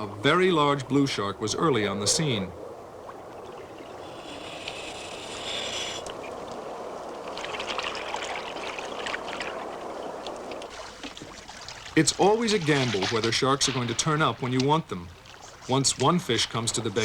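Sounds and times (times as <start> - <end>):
sea water sloshing: 0.0 - 17.0
faint crackling spatters: 3.0 - 17.0.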